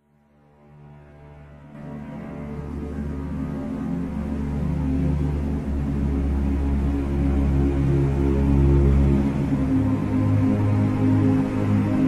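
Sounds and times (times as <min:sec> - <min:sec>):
soundtrack music with low tones: 0:00.0 - 0:12.0.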